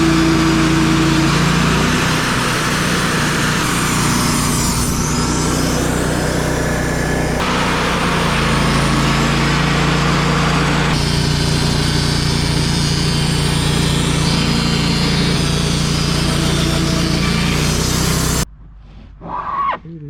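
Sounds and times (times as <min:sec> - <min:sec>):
band blade cutting log: 0:00.0 - 0:18.5
sawmill engine droning: 0:00.0 - 0:18.5.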